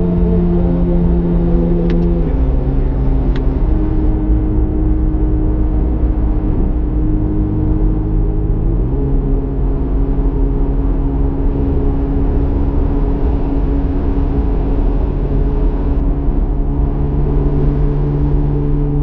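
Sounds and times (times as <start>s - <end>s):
sports car engine exhaust: 0.0s - 19.0s.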